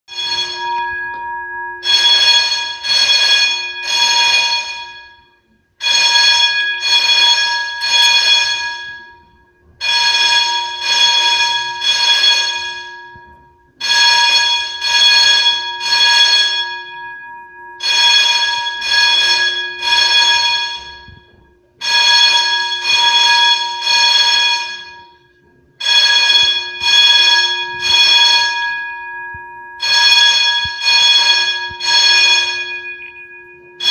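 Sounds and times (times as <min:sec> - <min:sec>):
fire alarm blasts: 0:00.1 - 0:33.9.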